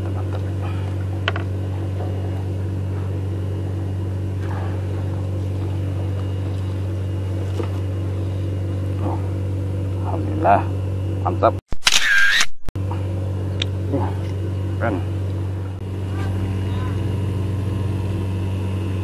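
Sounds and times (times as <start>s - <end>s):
small engine humming: 0.0s - 11.3s, 12.0s - 19.0s.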